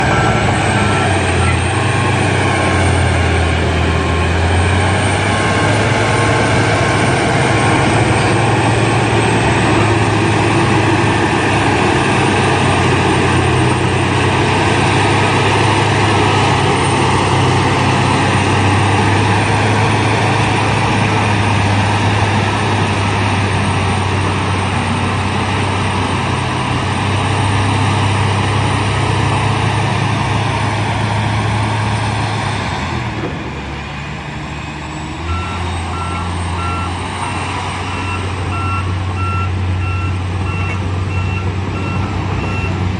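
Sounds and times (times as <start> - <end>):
bulldozer diesel engine droning: 0.0 - 42.9.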